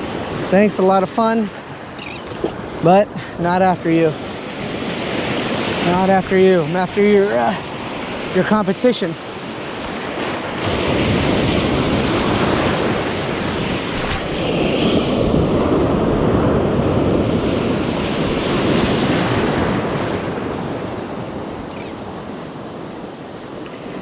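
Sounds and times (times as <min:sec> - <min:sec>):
ocean surf washing: 0:00.0 - 0:24.0
wind buffeting microphone: 0:00.0 - 0:24.0.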